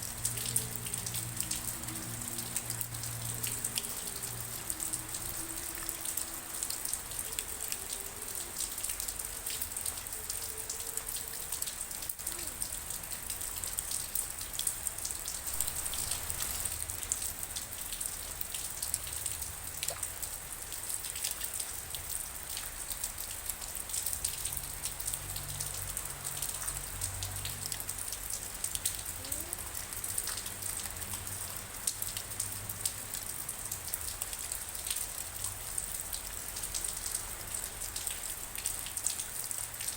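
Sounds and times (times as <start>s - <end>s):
raindrops striking nearby: 0.0s - 39.9s
steady rain hiss: 0.0s - 39.9s.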